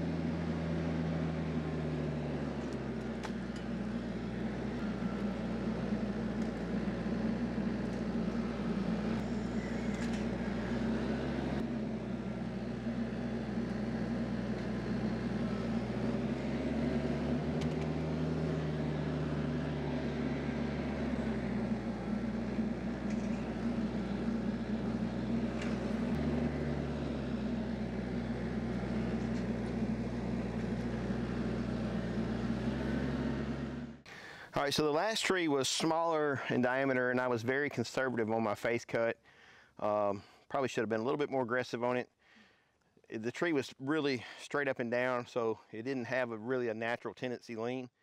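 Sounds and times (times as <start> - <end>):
tractor diesel engine running: 0.0 - 38.4.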